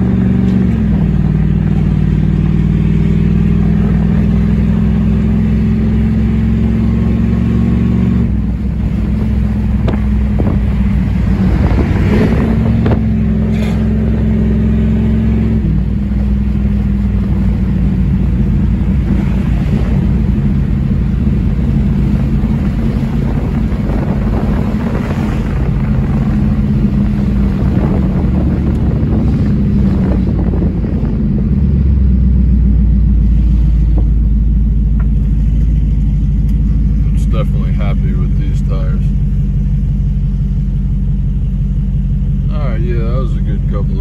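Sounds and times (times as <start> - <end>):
car engine cruising: 0.0 - 44.0
road noise: 0.0 - 44.0.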